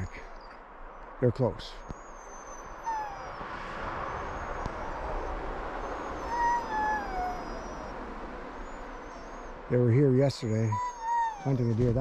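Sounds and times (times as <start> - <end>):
wolves howling: 1.9 - 12.0.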